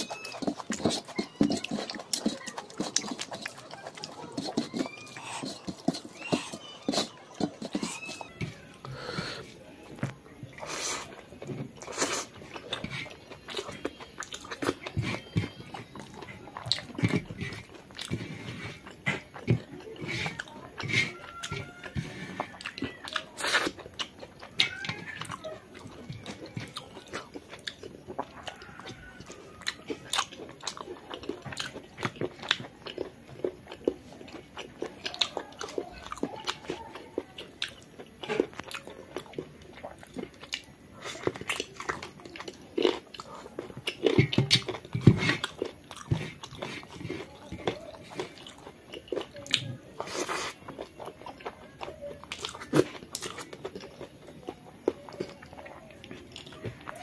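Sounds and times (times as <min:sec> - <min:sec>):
person chewing and lip smacking: 0:00.0 - 0:57.0.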